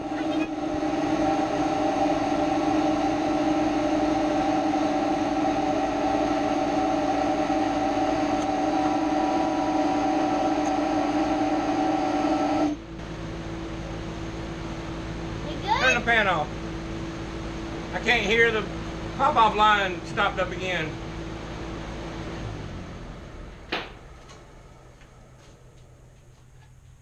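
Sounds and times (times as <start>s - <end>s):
air compressor running: 0.0s - 27.0s
shop fan humming: 0.0s - 27.0s.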